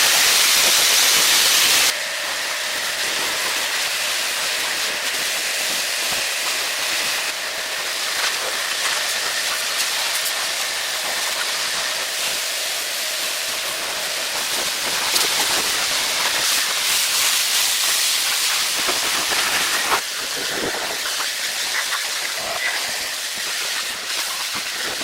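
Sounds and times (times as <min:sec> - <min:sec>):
steady loud hiss: 0:00.0 - 0:25.0.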